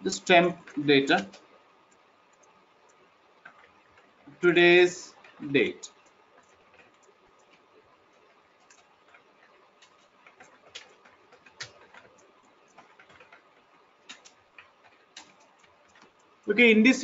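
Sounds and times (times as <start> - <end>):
computer keyboard typing: 0.0 - 17.0.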